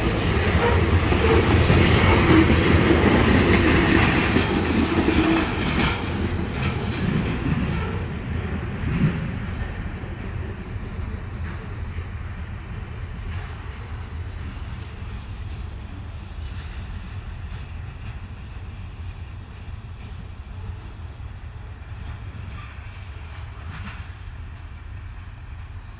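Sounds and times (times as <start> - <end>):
freight train rumbling on rails: 0.0 - 25.9.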